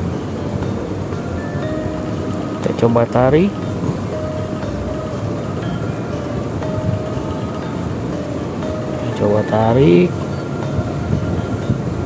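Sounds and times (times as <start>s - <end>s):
background music with held notes: 0.0s - 12.0s
steady low rumble: 0.0s - 12.0s.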